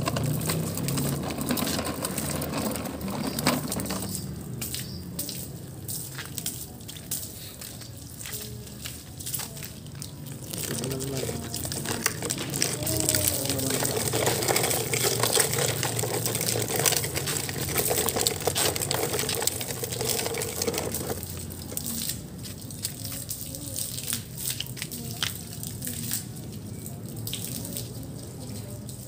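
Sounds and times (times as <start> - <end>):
running water splashing: 0.0 - 29.0
water dripping: 0.0 - 29.0.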